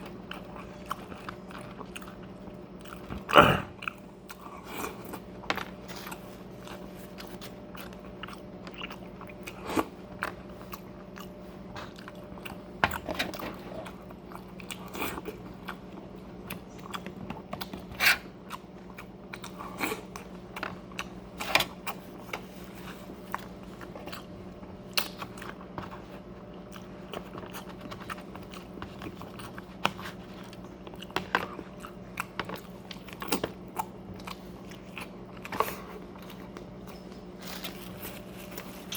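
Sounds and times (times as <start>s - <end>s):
chewing with crisp crunches: 0.0s - 38.9s
steady low hum: 0.0s - 38.9s.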